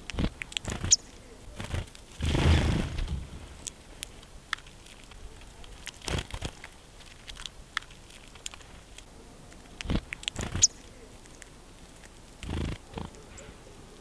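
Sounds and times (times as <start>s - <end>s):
birds pecking and cracking seeds: 0.0s - 14.0s.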